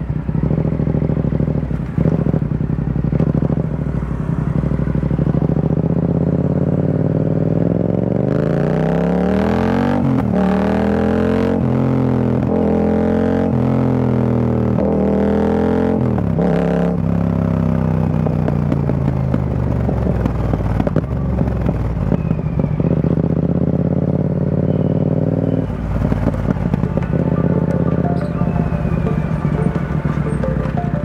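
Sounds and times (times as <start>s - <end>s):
motorcycle engine revving and crackling: 0.0s - 31.0s.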